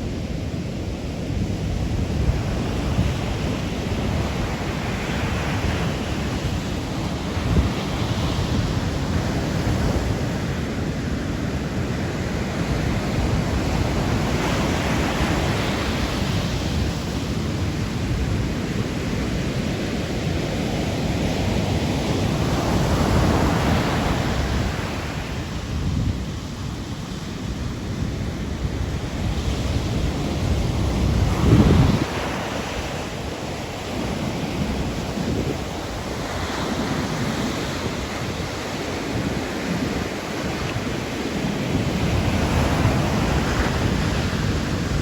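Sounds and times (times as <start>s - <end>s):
wind rumble on microphone: 0.0s - 45.0s
sea waves breaking: 1.4s - 45.0s.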